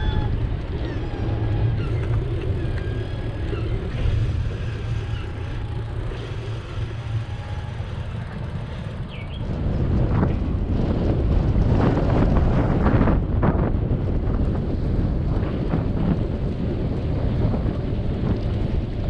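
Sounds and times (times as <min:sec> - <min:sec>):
bicycle rolling noise: 0:00.0 - 0:19.0
wind rumble on microphone: 0:00.0 - 0:19.0.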